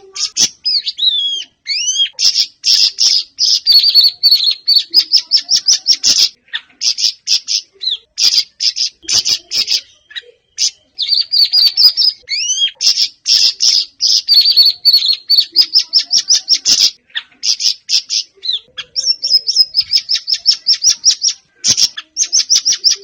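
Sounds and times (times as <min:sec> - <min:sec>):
bird chattering chirps: 0:00.0 - 0:23.0.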